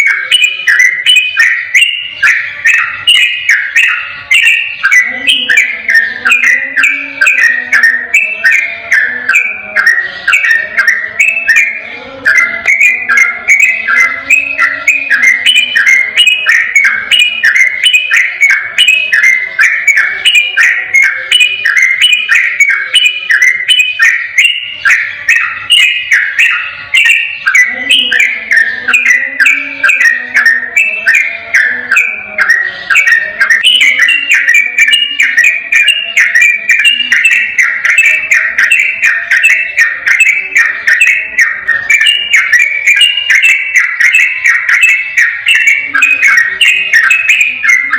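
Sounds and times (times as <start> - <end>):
bird singing rapid chirps: 0.0 - 47.9.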